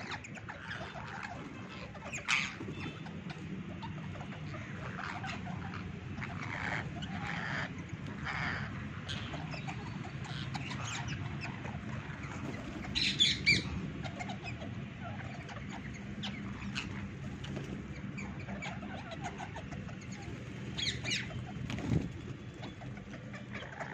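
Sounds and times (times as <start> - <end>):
parakeets squawking: 0.0 - 23.9.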